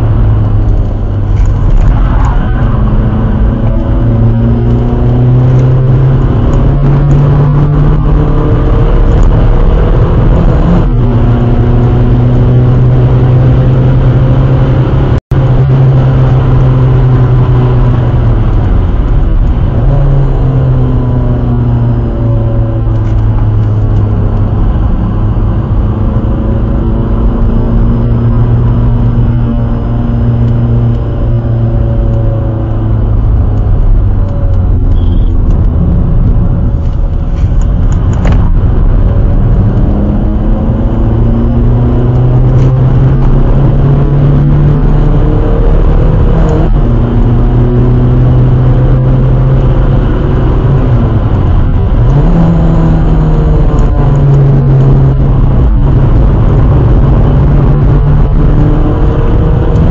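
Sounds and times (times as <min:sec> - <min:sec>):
diesel engine revving: 0:00.0 - 0:59.9
road and wind noise: 0:00.0 - 0:59.9.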